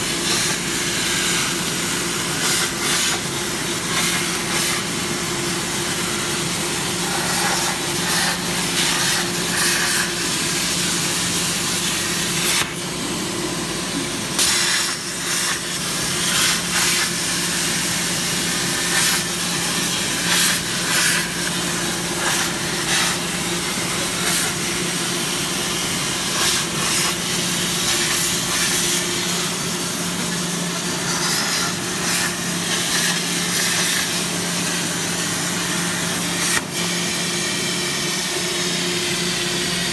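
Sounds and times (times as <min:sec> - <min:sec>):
plasma cutter arc hissing: 0:00.0 - 0:38.6.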